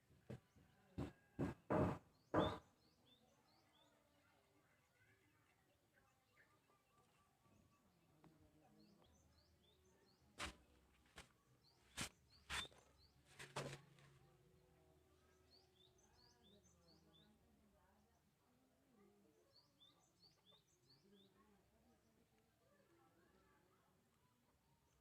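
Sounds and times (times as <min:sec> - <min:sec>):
small birds chirping: 0:00.3 - 0:25.0.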